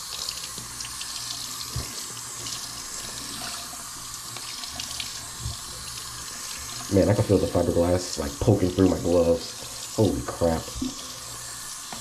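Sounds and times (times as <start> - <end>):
faucet running: 0.0 - 12.0.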